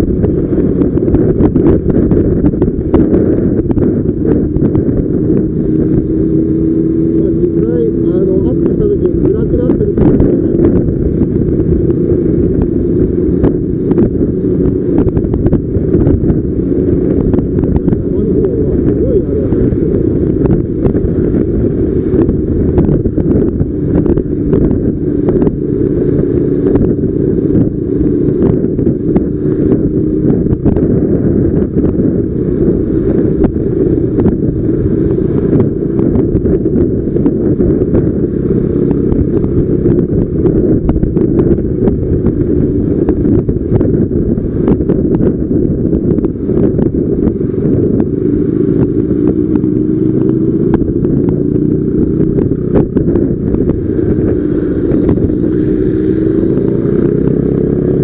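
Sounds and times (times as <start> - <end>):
vehicle running noise: 0.0 - 58.0
wind buffeting microphone: 0.0 - 58.0.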